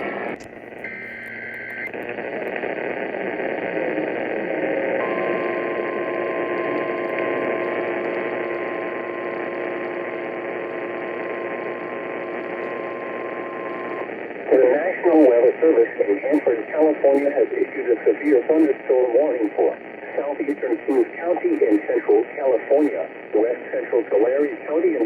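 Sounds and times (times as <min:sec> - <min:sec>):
radio static: 0:00.0 - 0:25.0.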